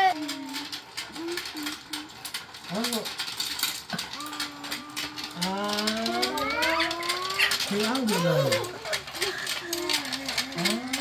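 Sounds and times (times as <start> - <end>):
toy plastic gears clicking: 0.0 - 11.0.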